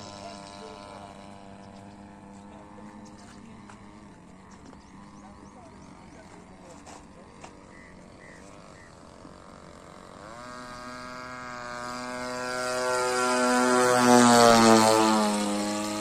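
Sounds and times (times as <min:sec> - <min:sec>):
model airplane engine flyby: 0:00.0 - 0:16.0.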